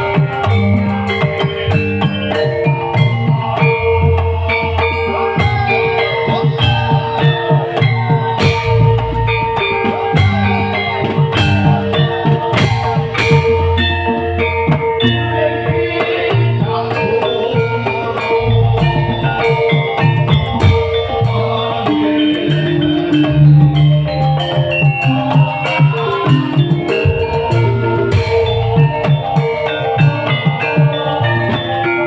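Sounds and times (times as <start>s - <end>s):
drum kit: 0.0s - 32.0s
guitar: 0.0s - 32.0s
keyboard: 0.0s - 32.0s
steady held tone: 0.0s - 32.0s.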